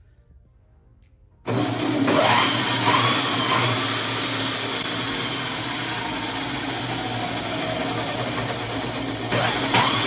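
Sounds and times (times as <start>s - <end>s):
electric motor running: 1.5s - 10.0s.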